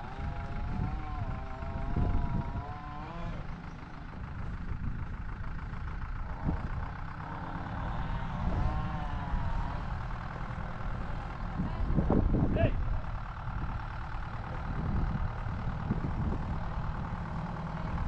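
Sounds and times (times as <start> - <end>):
vehicle engine rumble with whine: 0.0 - 18.0.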